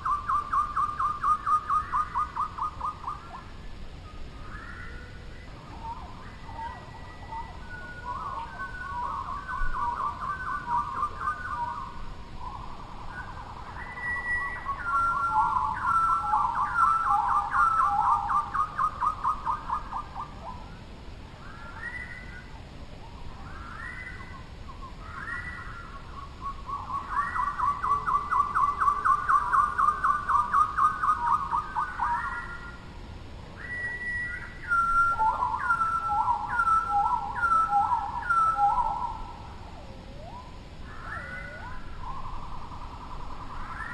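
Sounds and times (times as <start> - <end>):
bird singing whistled phrases: 4.0 - 20.5, 21.4 - 22.5, 23.5 - 32.8, 33.6 - 43.9.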